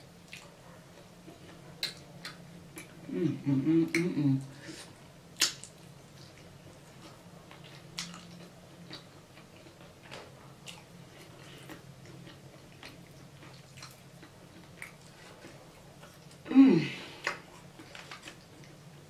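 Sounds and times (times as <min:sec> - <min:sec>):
faint low hum: 0:00.0 - 0:19.0
close chewing: 0:00.2 - 0:03.0, 0:05.4 - 0:16.4, 0:17.2 - 0:18.9.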